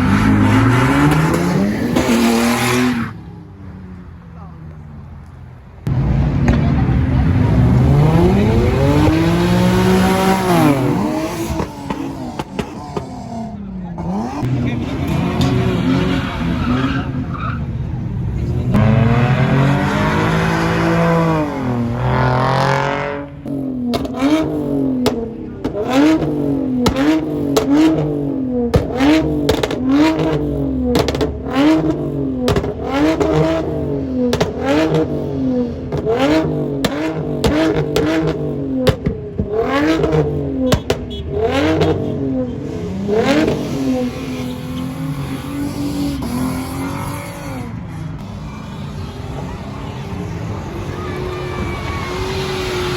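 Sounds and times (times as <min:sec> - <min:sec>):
car engine revving: 0:00.0 - 0:04.8, 0:05.8 - 0:52.9.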